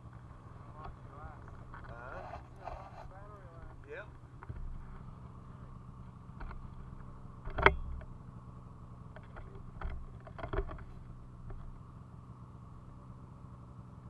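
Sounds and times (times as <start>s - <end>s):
snowmobile engine idling: 0.0s - 14.0s
sharp knocks and clacks: 0.2s - 11.8s.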